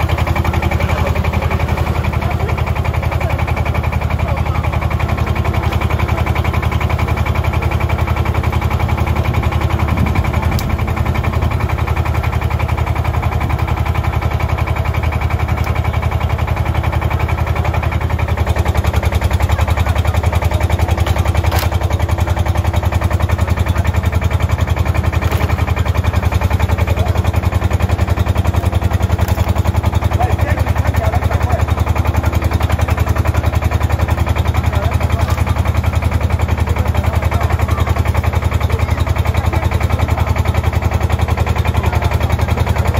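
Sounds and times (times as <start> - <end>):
diesel engine knocking: 0.0 - 42.9.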